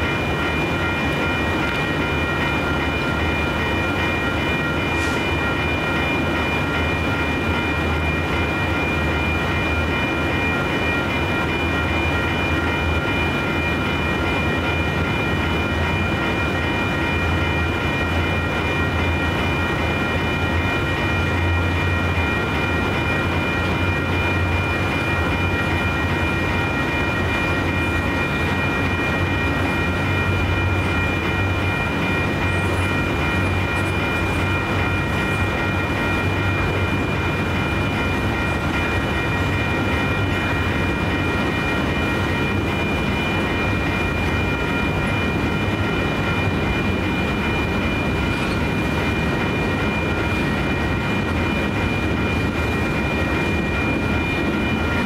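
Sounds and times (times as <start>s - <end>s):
high-pitched ringing tone: 0.0s - 55.0s
train rumbling: 0.0s - 55.0s.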